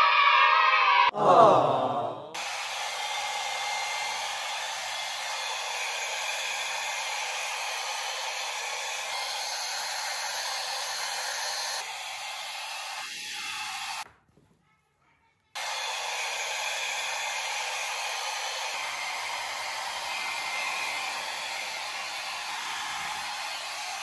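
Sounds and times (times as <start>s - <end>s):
hair dryer blowing: 2.4s - 14.0s, 15.6s - 24.0s.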